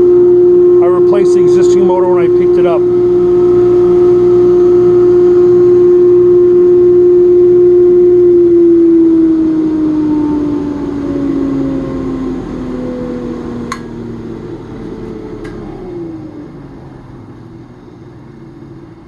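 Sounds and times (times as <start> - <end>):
grinder and blower whining: 0.0 - 19.0.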